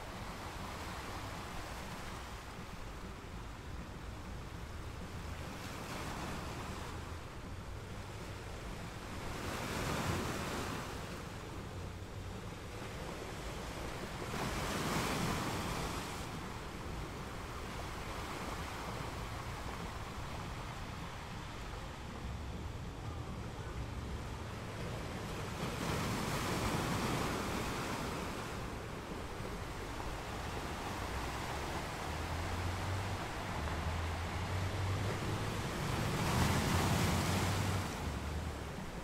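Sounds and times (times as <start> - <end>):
gentle ocean waves: 0.0 - 39.0.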